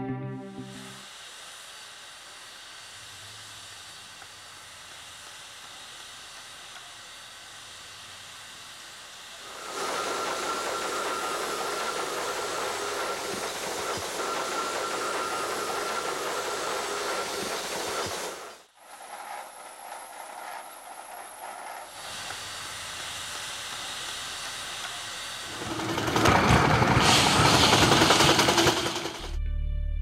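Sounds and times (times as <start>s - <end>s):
steam hissing: 0.9s - 29.3s.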